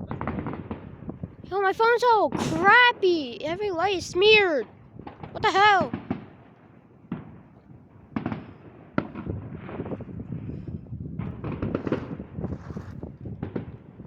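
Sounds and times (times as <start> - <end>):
firework bangs: 0.0 - 1.4, 2.3 - 14.0
fireworks popping and crackling: 0.0 - 14.0.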